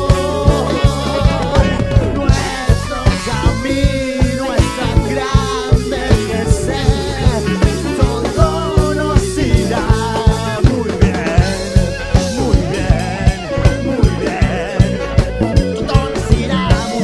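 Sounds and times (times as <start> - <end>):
live latin fusion band playing: 0.0 - 17.0.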